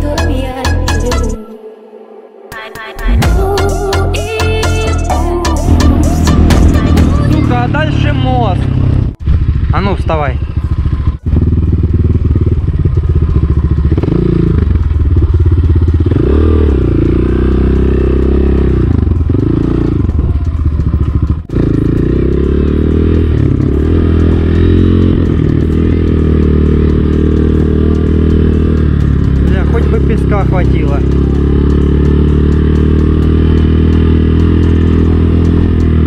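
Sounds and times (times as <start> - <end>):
motorcycle engine revving: 3.2 - 36.0.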